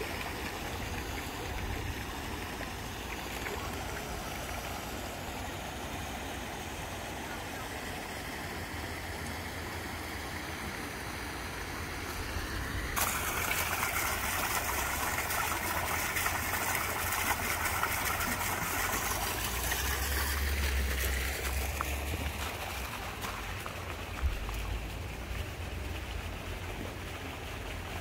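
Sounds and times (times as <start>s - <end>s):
fountain water splashing: 0.0s - 28.0s.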